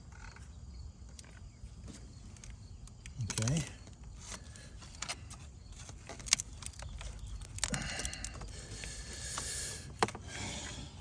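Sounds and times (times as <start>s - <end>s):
scraping and handling noise: 1.1s - 10.8s.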